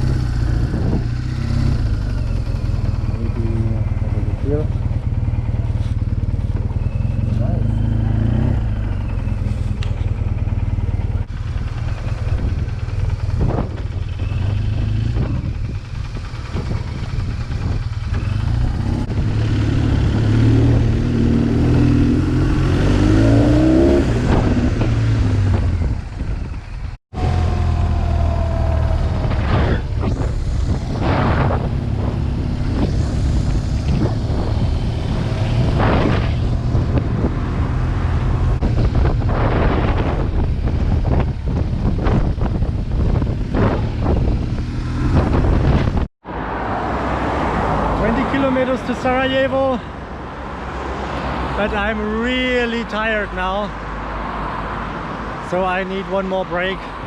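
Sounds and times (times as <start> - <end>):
wind noise: 0.0 - 49.1
motorcycle engine accelerating: 0.0 - 49.7.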